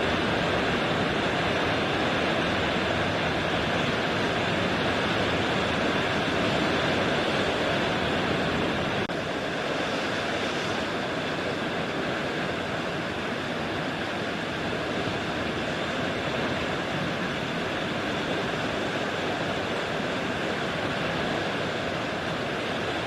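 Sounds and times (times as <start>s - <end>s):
ocean surf on beach: 0.0s - 23.0s.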